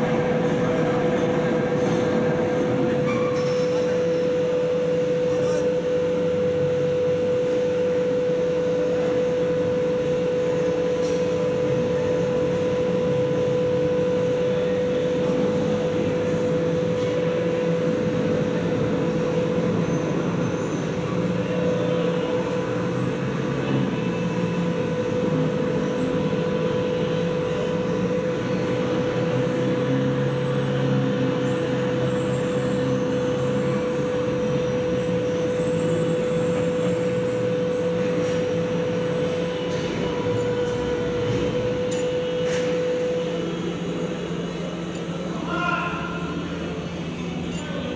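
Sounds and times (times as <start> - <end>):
diesel locomotive running: 0.0 - 47.9.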